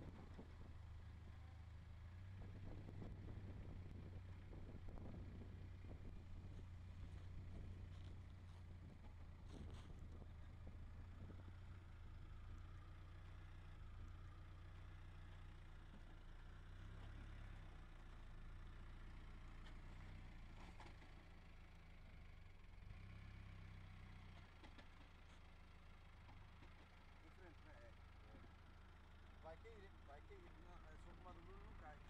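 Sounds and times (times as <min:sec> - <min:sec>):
faint diesel engine rumble: 0:00.0 - 0:32.0.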